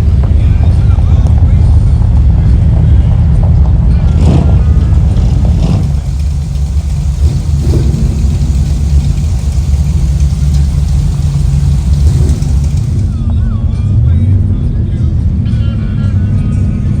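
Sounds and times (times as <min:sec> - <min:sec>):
car engines rumbling: 0:00.0 - 0:14.5.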